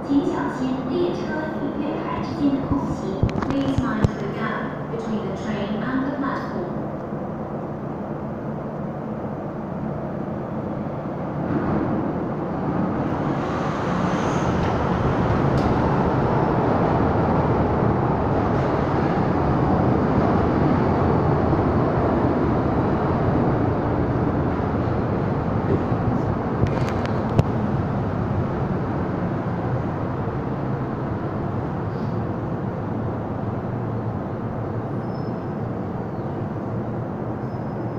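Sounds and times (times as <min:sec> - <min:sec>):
electric train rumble: 0:00.0 - 0:37.9.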